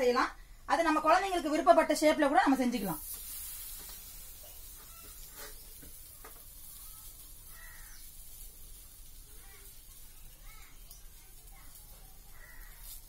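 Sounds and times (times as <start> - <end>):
flatbread sizzling on hot pan: 0.8 - 13.0.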